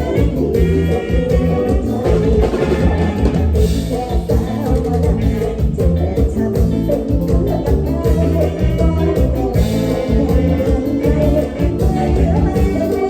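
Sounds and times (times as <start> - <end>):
person singing: 0.0 - 13.0
upbeat live dance band: 0.0 - 13.0.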